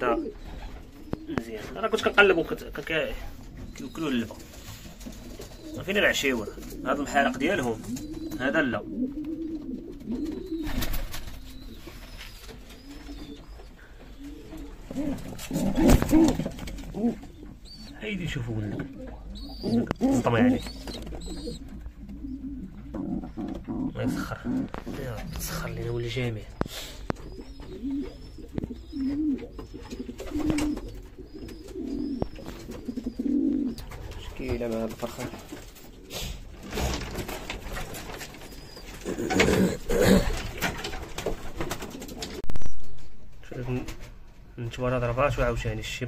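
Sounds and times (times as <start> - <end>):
pigeon cooing: 0.0 - 2.4, 3.0 - 42.4.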